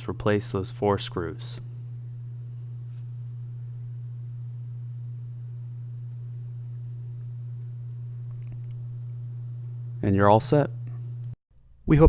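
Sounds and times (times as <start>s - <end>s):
steady low-pitched hum: 0.0s - 12.0s.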